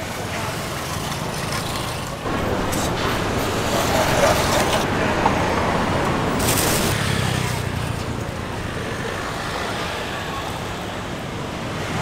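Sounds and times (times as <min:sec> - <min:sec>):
cars passing: 0:01.3 - 0:12.0.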